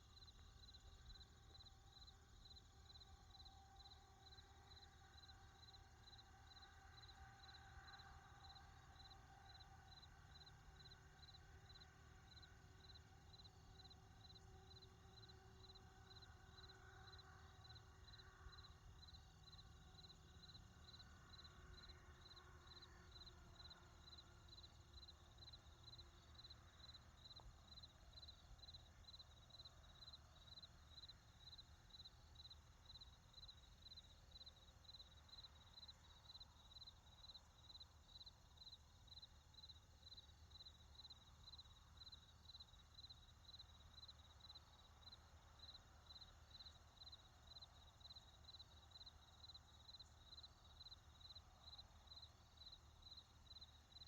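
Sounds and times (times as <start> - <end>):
insect chirping: 0.2 - 54.0.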